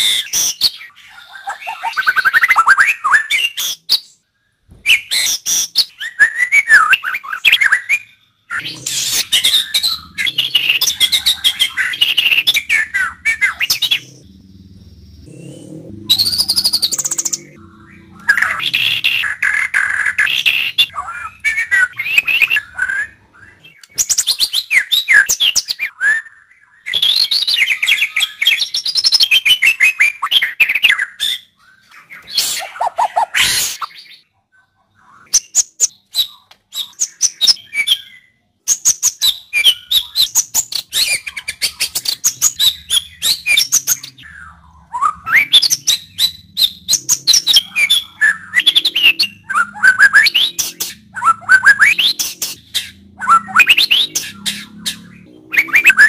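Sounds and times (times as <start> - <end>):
bird whistling song: 0.0 - 34.2, 35.0 - 56.0
harsh bird call: 4.7 - 34.2, 39.2 - 56.0.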